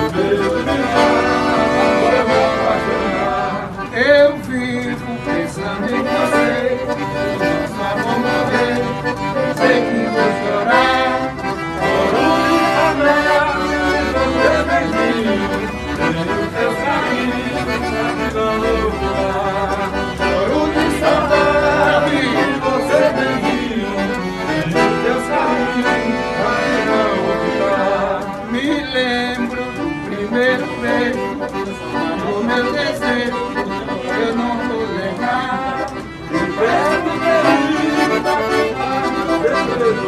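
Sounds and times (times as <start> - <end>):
accordion playing a tune: 0.0 - 40.0.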